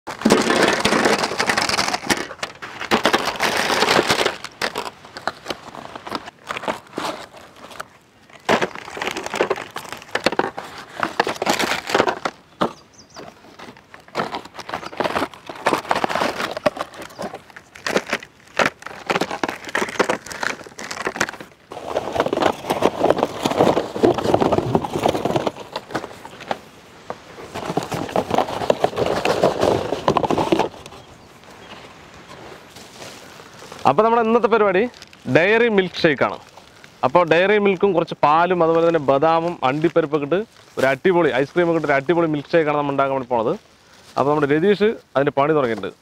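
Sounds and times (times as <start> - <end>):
plastic wrappers crinkling: 0.1 - 44.8.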